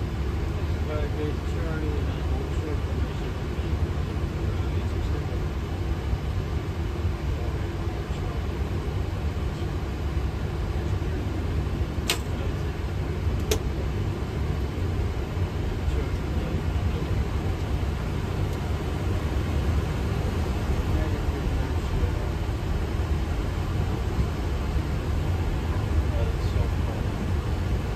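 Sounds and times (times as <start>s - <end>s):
aircraft cockpit rumble: 0.0s - 27.9s.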